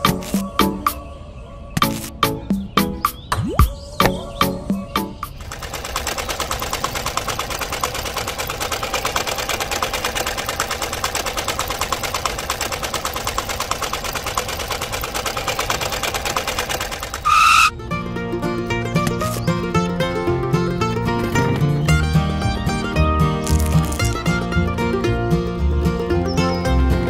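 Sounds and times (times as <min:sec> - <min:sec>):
small tractor engine putting: 0:04.0 - 0:27.0.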